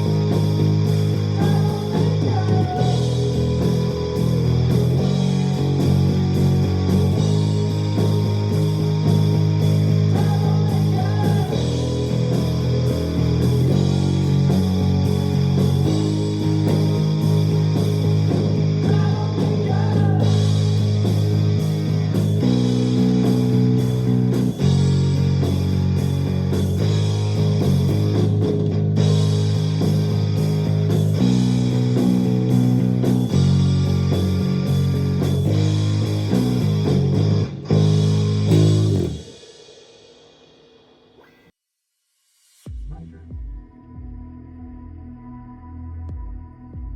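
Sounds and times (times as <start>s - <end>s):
electric bass playing rock line: 0.0s - 39.4s
drums and cymbals: 0.0s - 44.2s.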